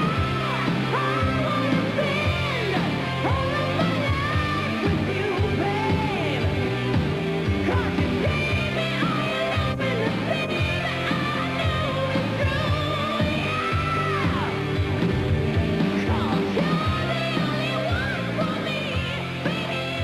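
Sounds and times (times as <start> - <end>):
person singing: 0.0 - 6.5, 7.6 - 14.6, 15.9 - 20.0
rock song: 0.0 - 20.0.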